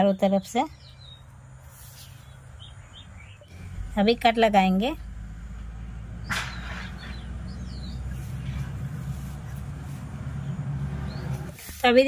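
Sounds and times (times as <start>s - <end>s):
steady low hum: 0.7s - 11.6s.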